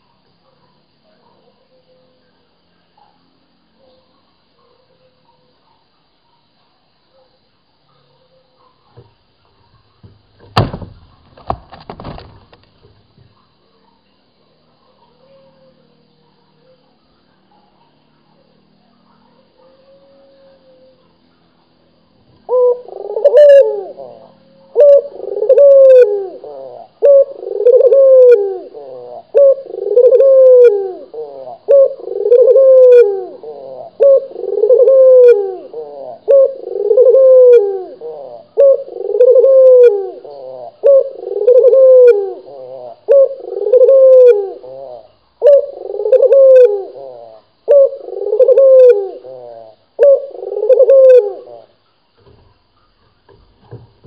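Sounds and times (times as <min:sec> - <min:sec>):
dove cooing: 0:00.0 - 0:06.6, 0:14.7 - 0:51.8.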